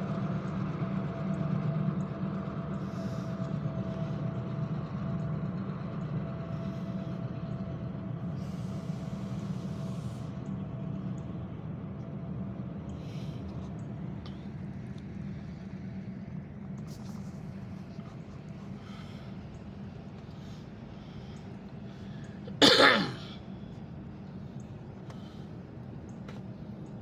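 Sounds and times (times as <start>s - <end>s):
engine idling hum: 0.0s - 27.0s.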